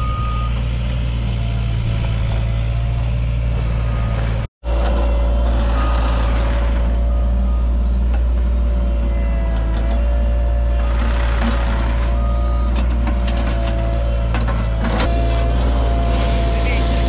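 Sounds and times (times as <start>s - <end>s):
excavator diesel engine whining: 0.0s - 17.0s.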